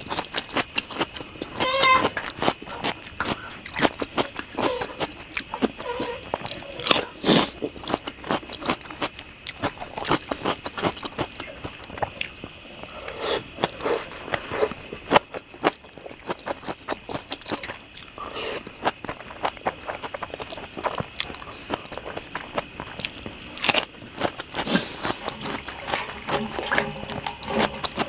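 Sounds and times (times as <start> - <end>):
wet chewing and mouth smacks: 2.2 - 28.0.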